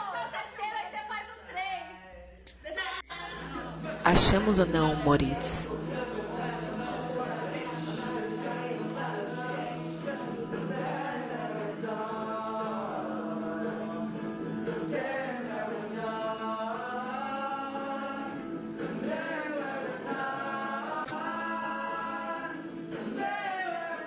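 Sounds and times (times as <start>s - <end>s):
choir singing held notes: 3.3s - 24.0s.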